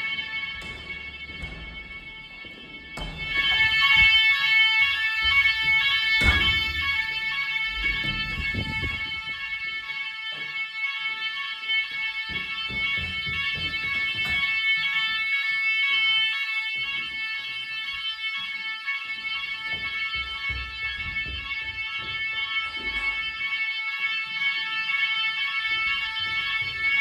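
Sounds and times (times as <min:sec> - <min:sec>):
electronic fire alarm tone: 0:00.0 - 0:27.0.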